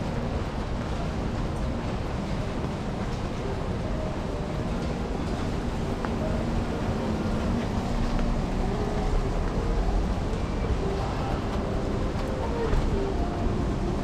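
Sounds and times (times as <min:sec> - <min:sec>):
rain on umbrella: 0:00.0 - 0:14.0
street traffic hum: 0:00.0 - 0:14.0.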